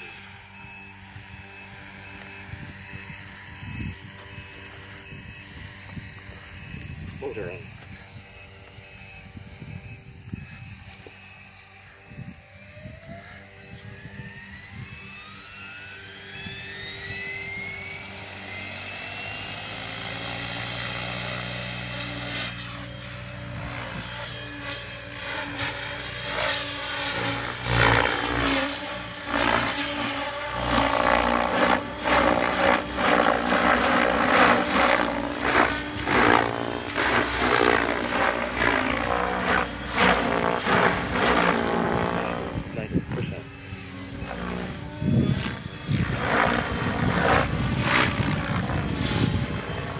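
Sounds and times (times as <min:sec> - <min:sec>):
electric motor whine: 0:00.0 - 0:49.9
helicopter rotor chop: 0:00.0 - 0:49.9.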